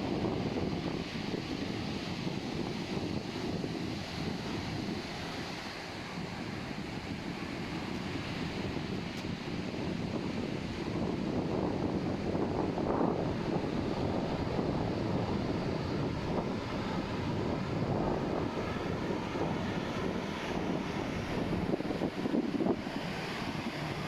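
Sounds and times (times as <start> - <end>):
ocean surf washing on beach: 0.0 - 24.0
wind buffeting microphone: 0.0 - 24.0.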